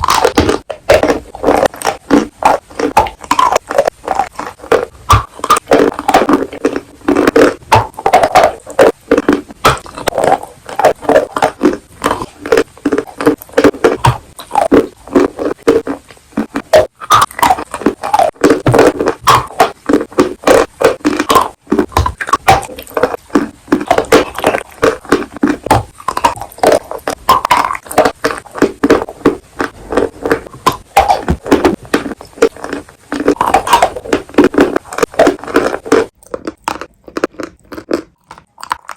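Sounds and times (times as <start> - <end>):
crunchy chewing: 0.0 - 38.9
wet mouth sounds: 0.0 - 38.9.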